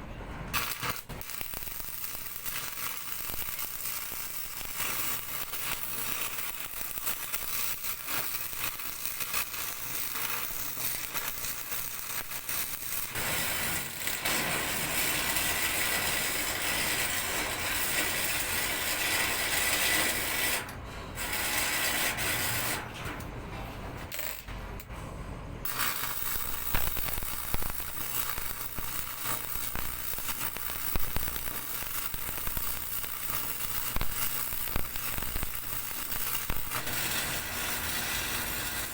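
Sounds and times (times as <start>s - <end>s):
welding arc crackling: 0.5s - 22.9s, 24.1s - 24.6s, 25.6s - 38.9s.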